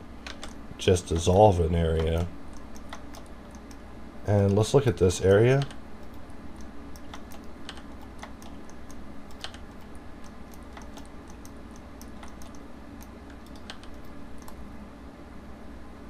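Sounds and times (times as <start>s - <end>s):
steady low hum: 0.0s - 16.0s
keyboard and mouse clicking: 0.2s - 1.4s, 2.0s - 4.7s, 5.5s - 14.6s.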